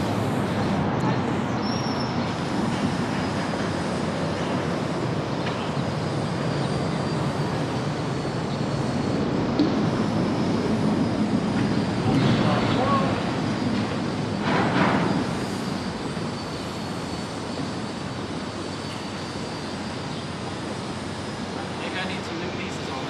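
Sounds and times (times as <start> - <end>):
city rumble and hiss: 0.0 - 23.0.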